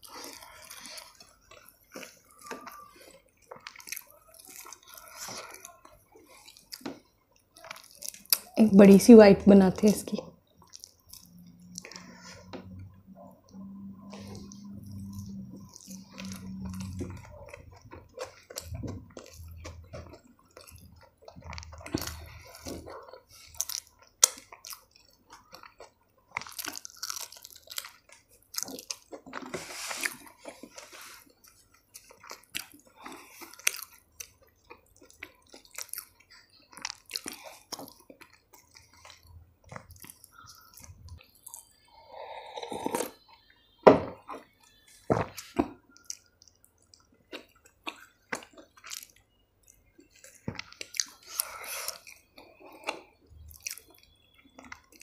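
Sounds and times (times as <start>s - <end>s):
close-miked chewing: 0.0s - 9.0s, 9.7s - 43.7s, 44.3s - 55.0s.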